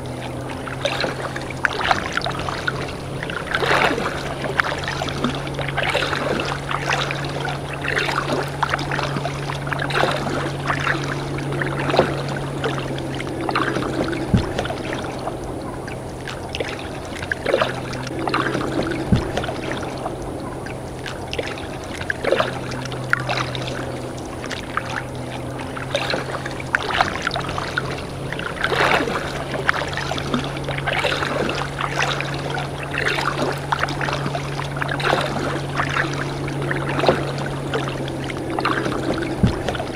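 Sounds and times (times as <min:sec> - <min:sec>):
steady low hum: 0:00.0 - 0:39.9
water splashing against hull: 0:00.0 - 0:39.9.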